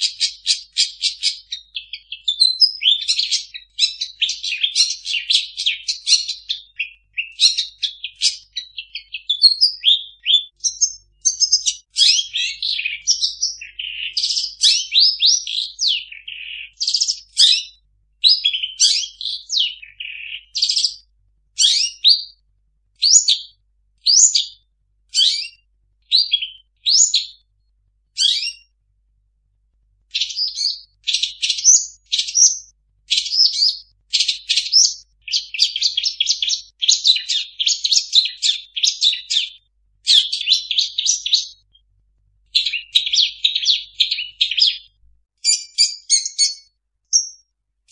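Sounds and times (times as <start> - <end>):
shrike singing varied song: 0.0 - 22.4, 23.0 - 27.5, 28.1 - 28.8, 30.1 - 41.8, 42.5 - 47.5.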